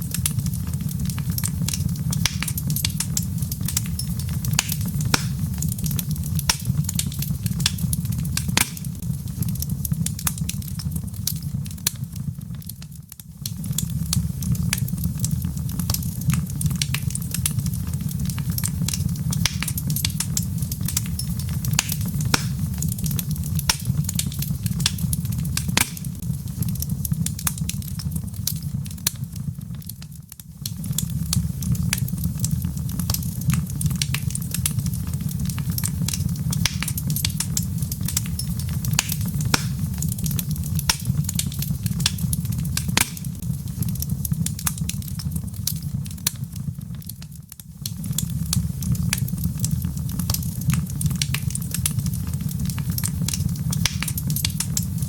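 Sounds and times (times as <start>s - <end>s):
logs crackling in a fireplace: 0.0s - 55.0s
low fire rumble: 0.0s - 55.0s.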